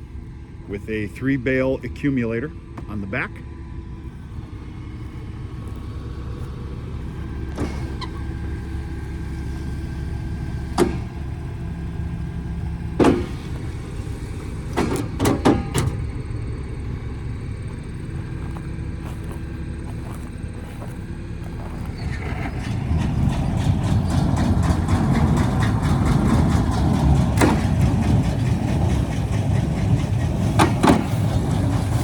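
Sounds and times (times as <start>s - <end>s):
tractor and baler drone: 0.0s - 32.0s.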